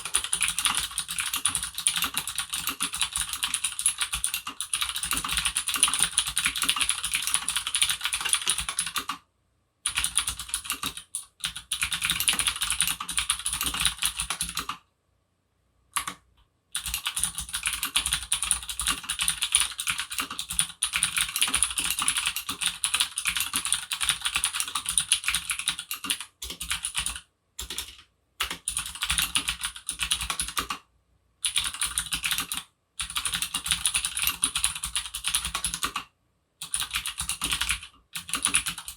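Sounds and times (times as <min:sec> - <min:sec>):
fast typing on mechanical keyboard: 0:00.0 - 0:09.2, 0:09.9 - 0:14.8, 0:16.0 - 0:30.8, 0:31.4 - 0:38.9.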